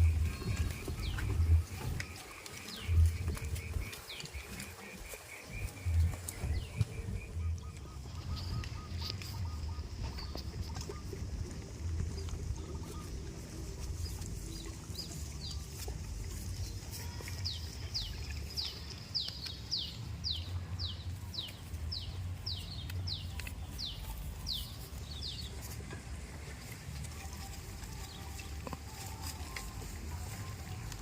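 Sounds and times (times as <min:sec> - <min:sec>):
steady low rumble: 0:00.0 - 0:28.6.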